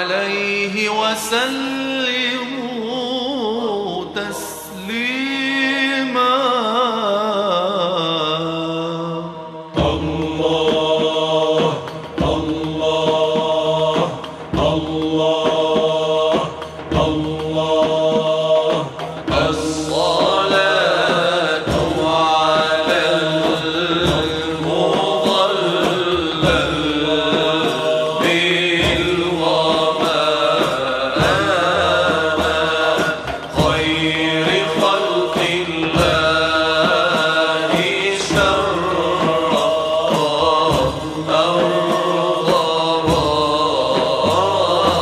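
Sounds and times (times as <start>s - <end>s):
unaccompanied chanting: 0.0s - 45.0s.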